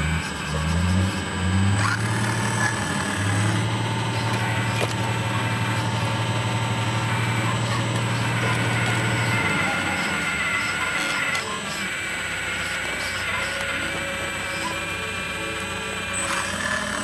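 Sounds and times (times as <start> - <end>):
model excavator mechanical drone: 0.0 - 17.0.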